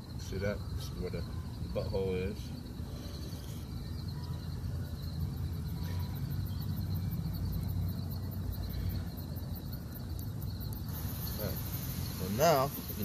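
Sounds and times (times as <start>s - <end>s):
faint crickets chirping: 0.0s - 13.0s.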